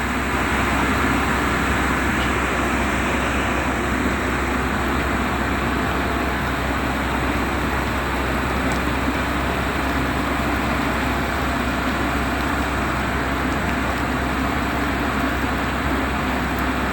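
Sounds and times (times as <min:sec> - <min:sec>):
boat engine droning: 0:00.0 - 0:16.9
rushing water noise: 0:00.0 - 0:16.9.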